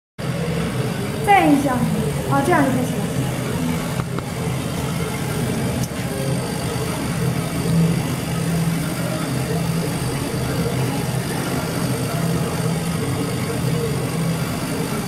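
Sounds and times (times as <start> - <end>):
laser cutting machine humming: 0.2 - 15.0.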